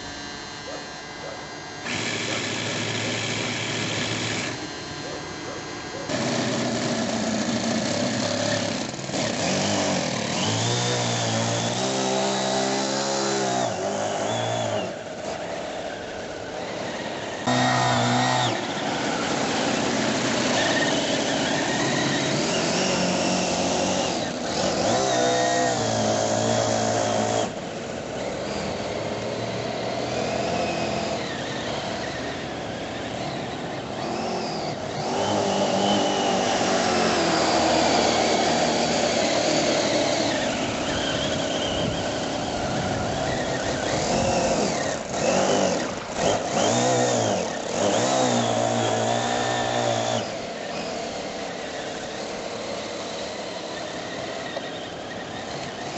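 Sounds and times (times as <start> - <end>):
model speedboat engine: 0.0 - 55.9.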